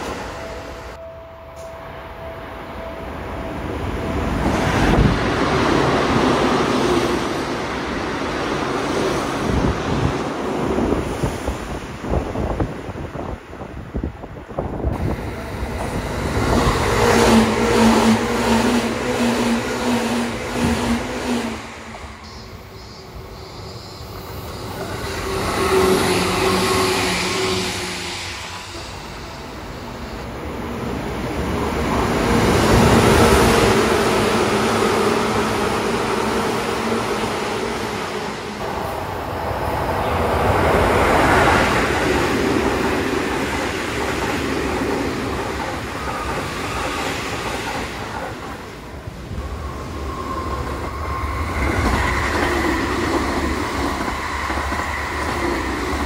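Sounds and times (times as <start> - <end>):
electric trains passing fast: 0.0 - 56.0.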